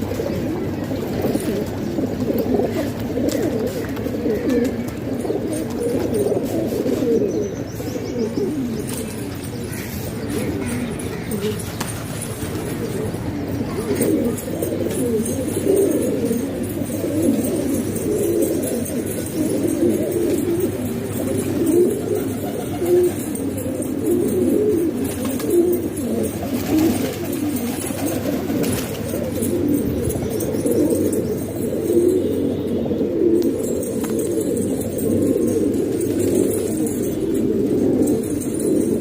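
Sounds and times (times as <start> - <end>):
pigeons cooing: 0.0 - 39.0.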